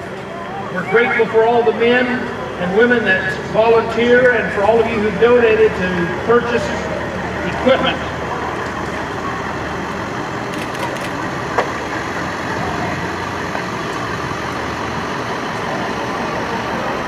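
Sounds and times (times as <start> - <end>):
truck engine driving past: 0.0 - 17.0.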